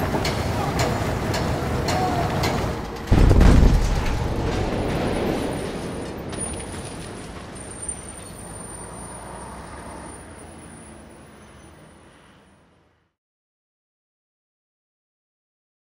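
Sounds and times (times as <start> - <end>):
city traffic din: 0.0 - 13.2.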